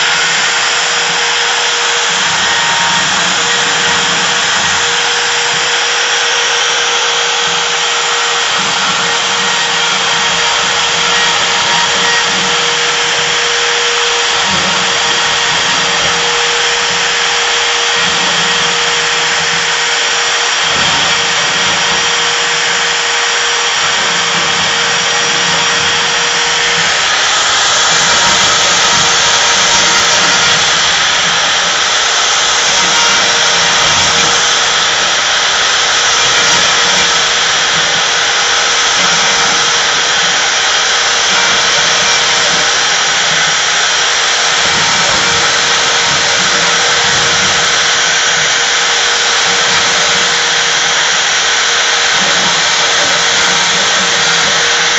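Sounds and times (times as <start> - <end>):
cnc router cutting: 0.0 - 54.9
steady whine: 0.0 - 54.9.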